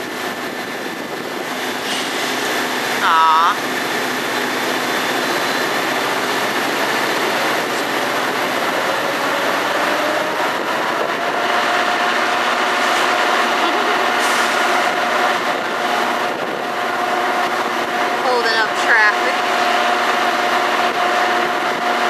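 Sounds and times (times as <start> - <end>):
train running: 0.0 - 22.0.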